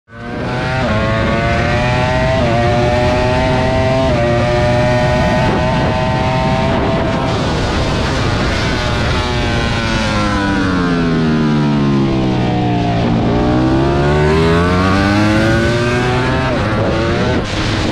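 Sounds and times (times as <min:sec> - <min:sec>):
superbike engine at full throttle: 0:00.1 - 0:17.9.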